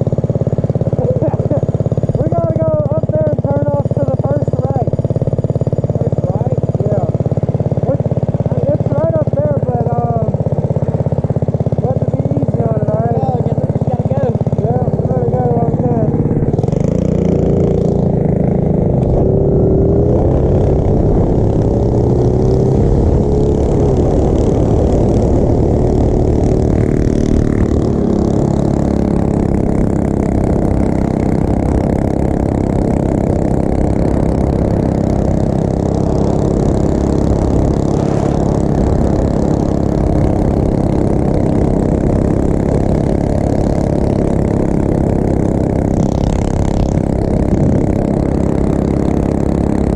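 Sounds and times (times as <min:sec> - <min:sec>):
small motorbike engine running: 0:00.0 - 0:49.9.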